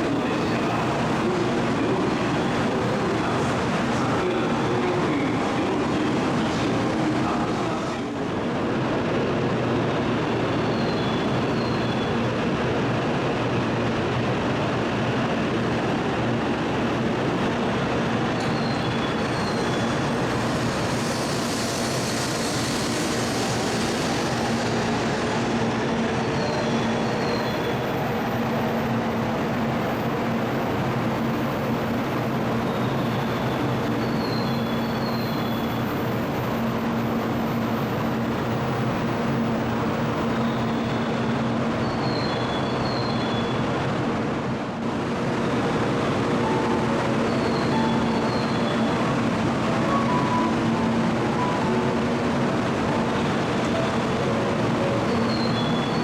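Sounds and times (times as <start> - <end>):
high-speed train rumbling: 0.0 - 56.0.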